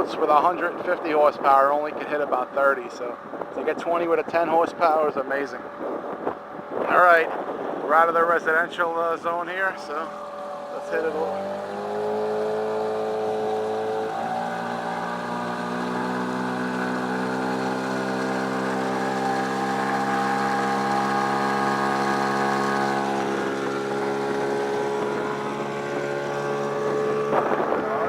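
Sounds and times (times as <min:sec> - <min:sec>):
outboard motor droning: 0:00.0 - 0:28.0.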